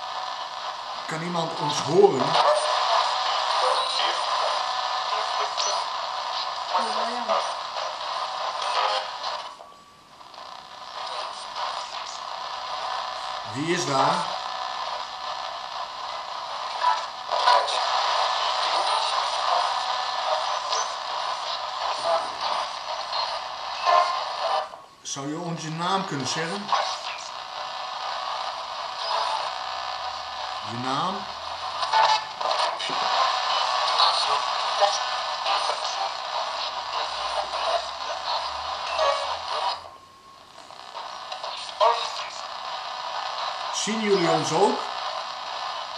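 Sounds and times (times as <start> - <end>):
choppy radio static hiss: 0.0 - 45.9.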